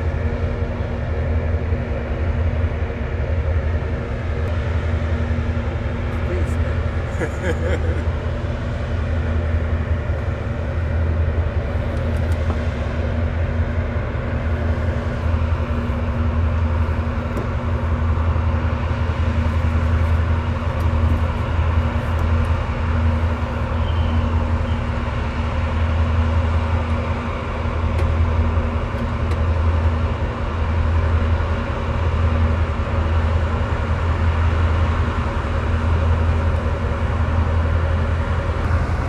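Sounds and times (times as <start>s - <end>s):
constant hum: 0.0s - 39.0s
diesel engines droning: 0.0s - 39.0s.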